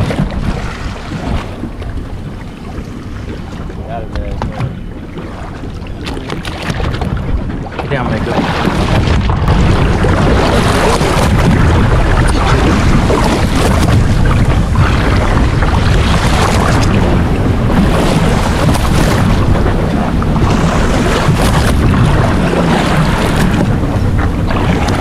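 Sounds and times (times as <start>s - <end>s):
water rushing along boat hull: 0.0s - 25.0s
wind buffeting microphone: 0.0s - 25.0s.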